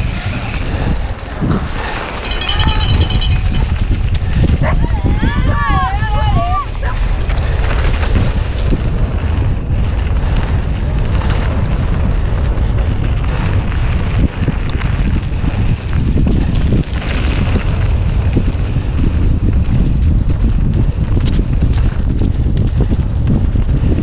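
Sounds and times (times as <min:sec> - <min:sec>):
bike clattering on rough trail: 0:00.0 - 0:24.0
wind buffeting microphone: 0:00.0 - 0:24.0.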